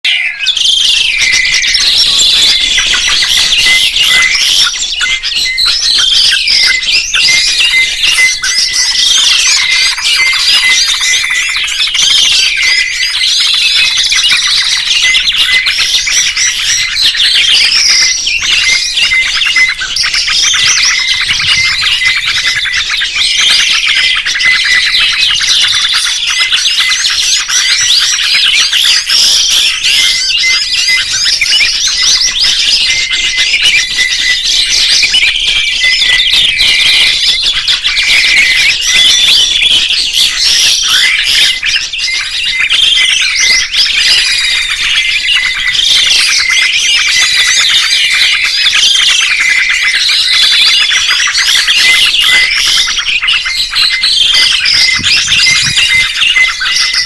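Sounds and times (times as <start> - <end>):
rapid repeated bird notes: 0.0 - 57.0
songbirds chirping and singing: 0.0 - 57.0.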